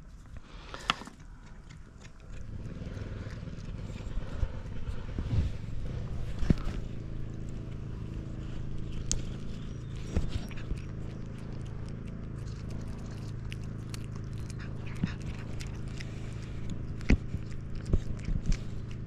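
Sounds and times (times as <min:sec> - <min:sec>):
cat chewing: 0:00.0 - 0:19.0
cat purring: 0:00.8 - 0:19.0.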